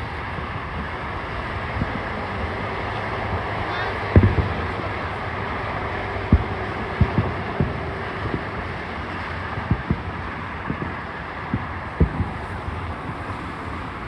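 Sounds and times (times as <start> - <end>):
distant fireworks booming: 0.0 - 14.0
steady background noise: 0.0 - 14.0.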